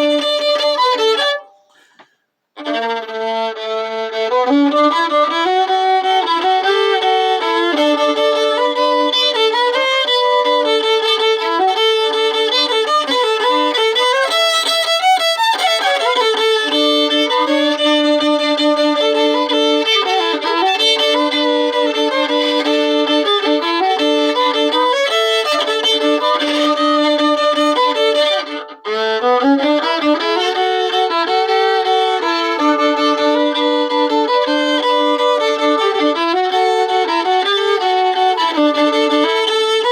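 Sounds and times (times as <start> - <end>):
solo fiddle playing: 0.0 - 39.9.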